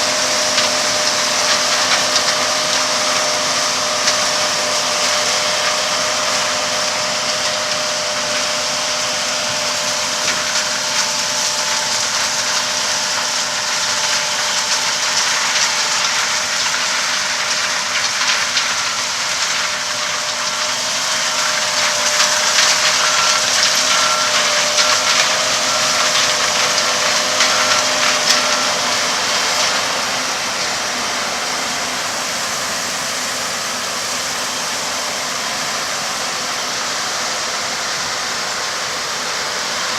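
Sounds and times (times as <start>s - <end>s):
constant mechanical whine: 0.0s - 39.9s
farm machinery running: 0.0s - 39.9s.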